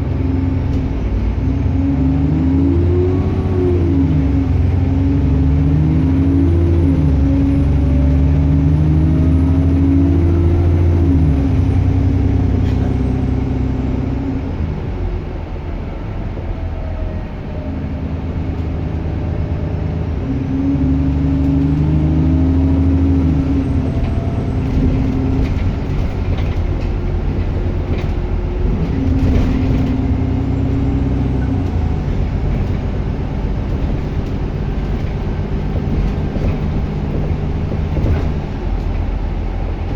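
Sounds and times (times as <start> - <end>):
bus engine pulling hard: 0.0 - 39.9.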